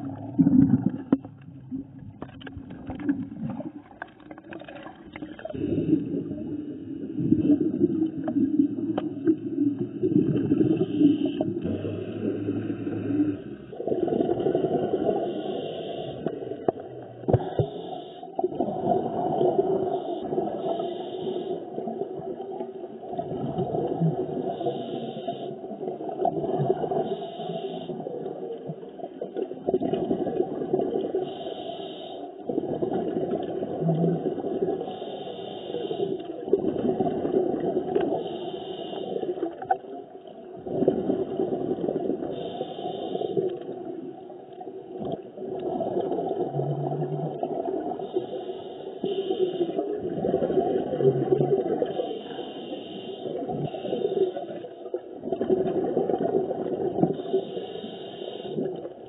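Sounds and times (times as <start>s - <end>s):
underwater gurgling rush of water: 0.0s - 59.0s.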